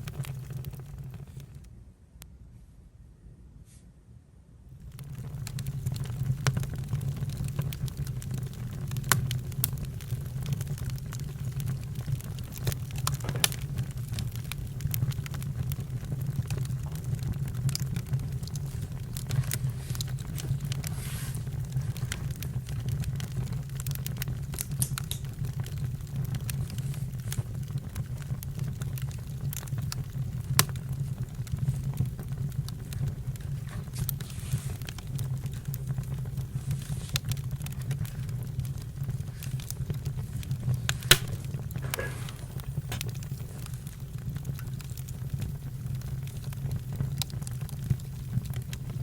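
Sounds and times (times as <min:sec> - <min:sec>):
campfire crackling and popping: 0:00.0 - 0:01.7, 0:04.8 - 0:49.0.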